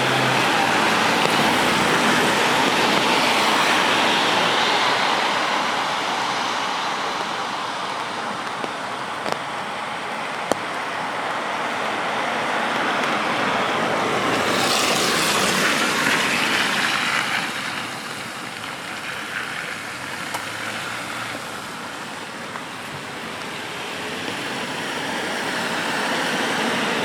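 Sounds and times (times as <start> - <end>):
car tyres hissing on wet road: 0.0 - 27.0
rain hiss: 0.0 - 27.0.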